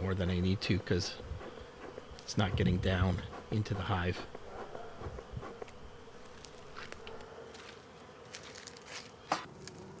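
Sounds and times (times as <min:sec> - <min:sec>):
bees buzzing: 0:00.0 - 0:08.4.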